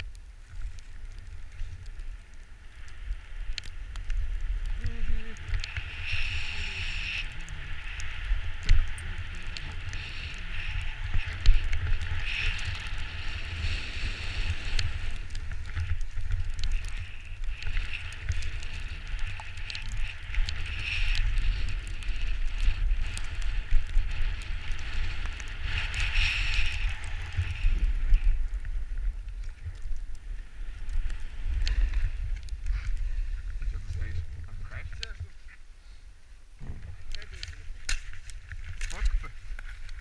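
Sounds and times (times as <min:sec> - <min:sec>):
steady hiss: 0:00.0 - 0:40.0
wind buffeting microphone: 0:03.2 - 0:35.6, 0:36.5 - 0:40.0.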